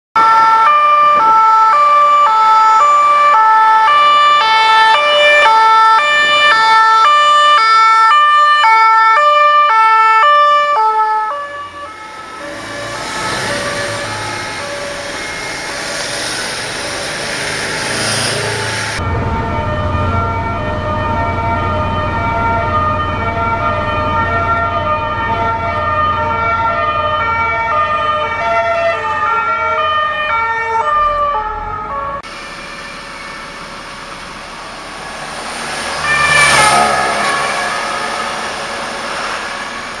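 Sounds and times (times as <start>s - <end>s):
second siren: 0.2s - 17.1s, 17.7s - 40.0s
engine and road rumble: 0.2s - 40.0s
two-tone police siren: 0.2s - 40.0s.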